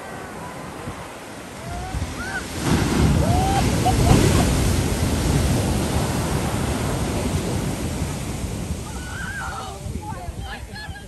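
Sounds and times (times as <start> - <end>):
heavy wave crashing: 0.0 - 10.7.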